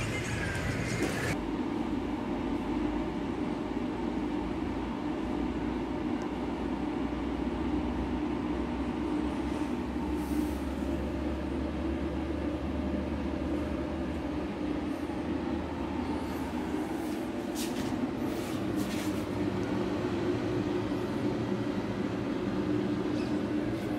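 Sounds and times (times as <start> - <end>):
inverter hum and fan whir: 0.0 - 23.9.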